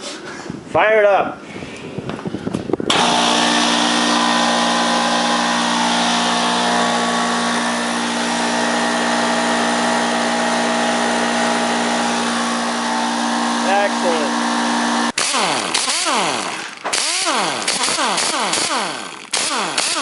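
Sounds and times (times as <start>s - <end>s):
electric air compressor running: 2.9s - 20.0s.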